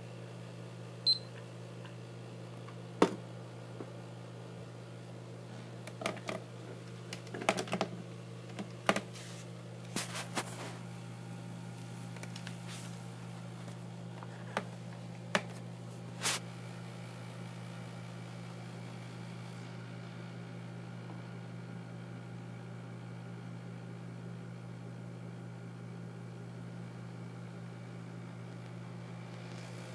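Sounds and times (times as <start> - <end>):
electric fan humming: 0.0 - 29.9.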